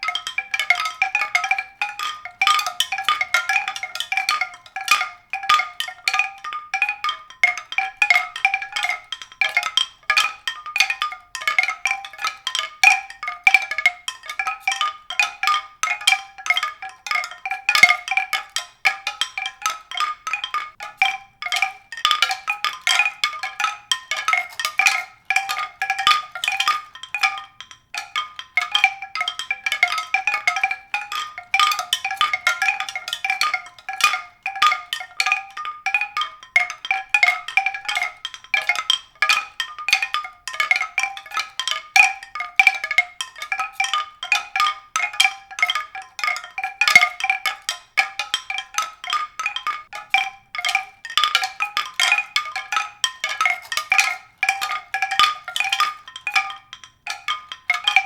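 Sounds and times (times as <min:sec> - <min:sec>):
tuned percussion notes: 0:00.0 - 0:58.0.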